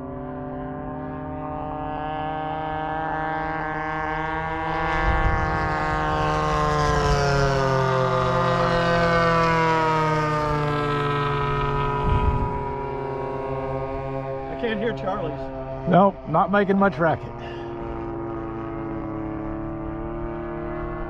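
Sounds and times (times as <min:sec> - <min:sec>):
model plane engines droning: 0:00.0 - 0:21.0.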